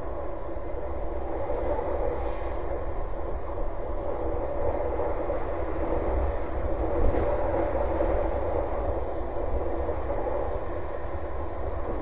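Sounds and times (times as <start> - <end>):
unsteady low rumble: 0.0 - 12.0.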